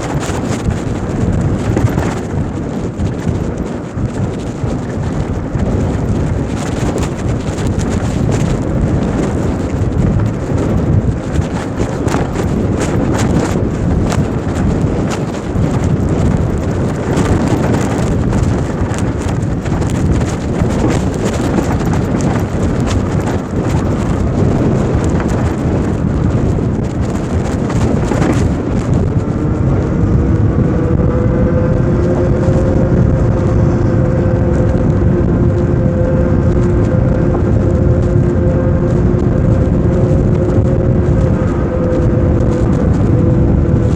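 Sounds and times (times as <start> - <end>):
wind buffeting microphone: 0.0 - 43.9
electric bike motor whine: 0.2 - 43.9.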